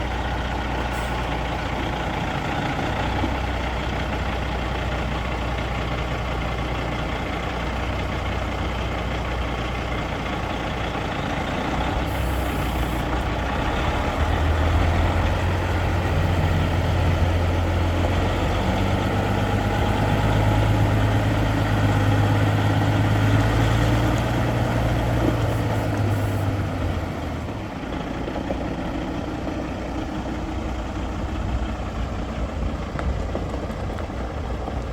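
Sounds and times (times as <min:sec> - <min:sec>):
truck diesel engine idling and revving: 0:00.0 - 0:34.9.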